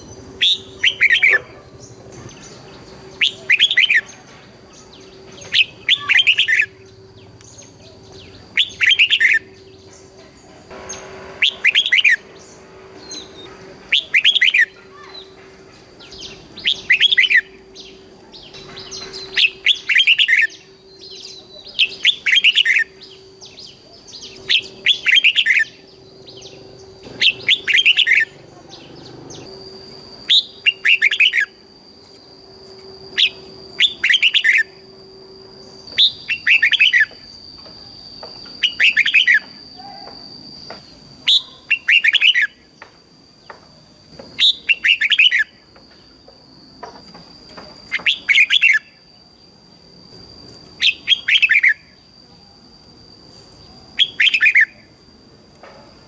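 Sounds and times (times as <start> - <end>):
bulbul singing: 0.0 - 55.2
faint steady hum: 0.0 - 56.0.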